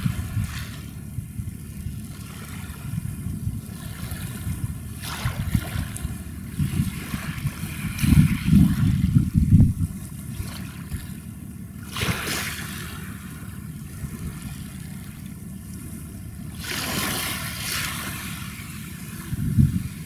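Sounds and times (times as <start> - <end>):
low rumble of wind and water: 0.0 - 20.0
water washing in: 3.7 - 20.0.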